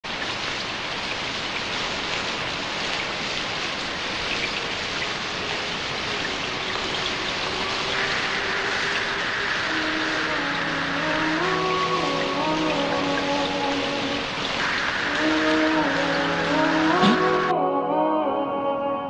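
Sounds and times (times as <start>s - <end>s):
heavy rain: 0.0s - 17.6s.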